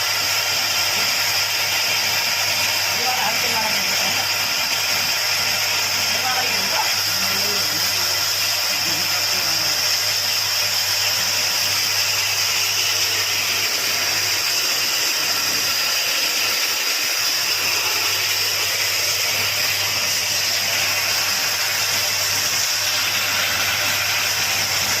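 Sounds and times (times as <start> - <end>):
woodworking machine running: 0.0 - 25.0.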